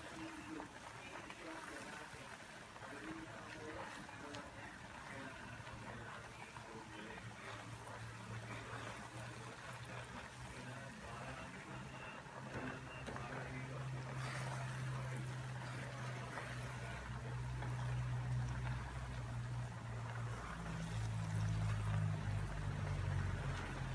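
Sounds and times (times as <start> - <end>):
coconut milk bubbling in a pan: 0.0 - 23.9
spatula stirring: 0.0 - 23.9.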